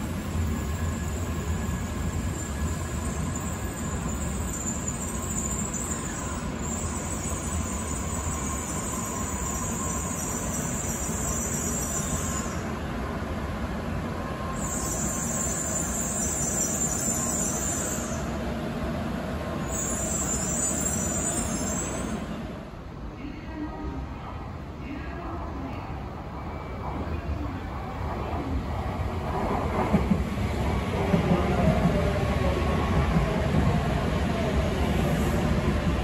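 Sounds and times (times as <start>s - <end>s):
train rumbling through station: 0.0s - 36.0s.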